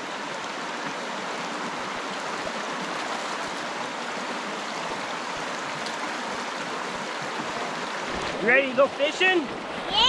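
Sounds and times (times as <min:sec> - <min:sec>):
creek water flowing over stones: 0:00.0 - 0:10.0.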